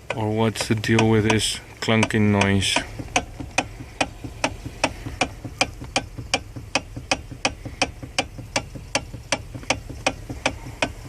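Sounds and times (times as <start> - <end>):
low hum: 0.0 - 11.0
steady evenly spaced clicking: 0.0 - 11.0.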